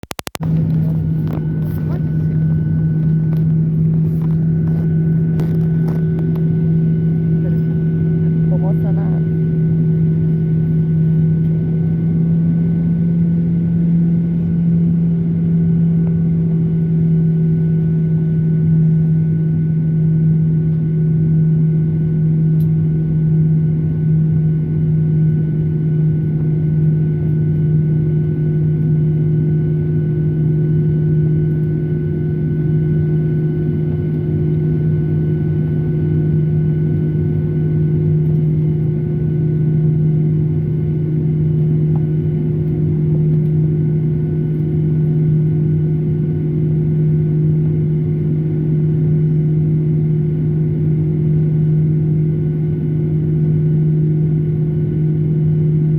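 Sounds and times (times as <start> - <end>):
engine whine: 0.0 - 55.9
jet engines droning: 0.1 - 55.9.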